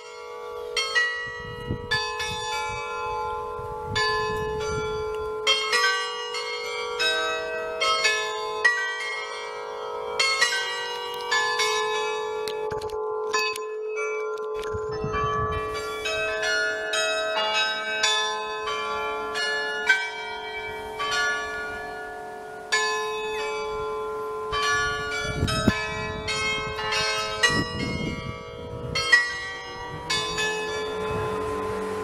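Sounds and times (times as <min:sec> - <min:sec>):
carillon bells playing tune: 0:00.0 - 0:32.0
deep bell hum: 0:00.1 - 0:32.0.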